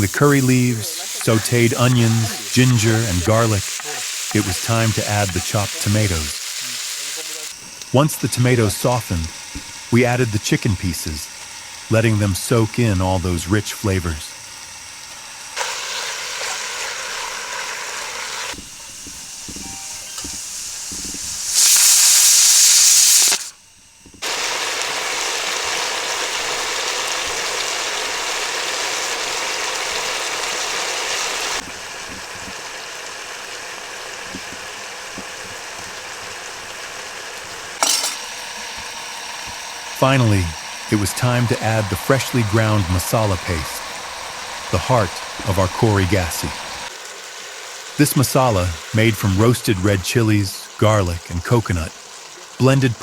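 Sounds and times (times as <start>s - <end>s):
chicken sizzling in hot oil: 0.0s - 53.0s.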